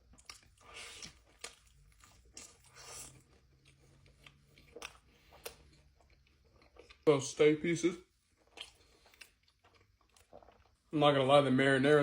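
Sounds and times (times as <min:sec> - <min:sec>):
wet chewing: 0:00.0 - 0:07.1, 0:08.2 - 0:10.9.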